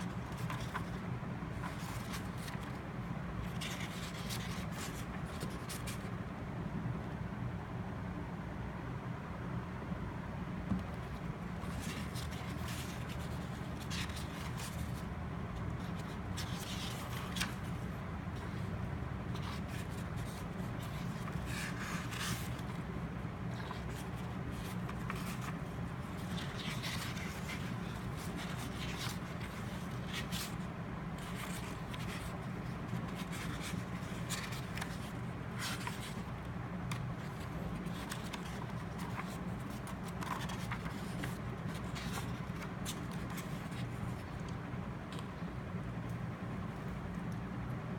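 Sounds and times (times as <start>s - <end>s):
paper rustling and scraping: 0.0s - 6.2s, 10.8s - 45.5s
steady low hum: 0.0s - 47.9s.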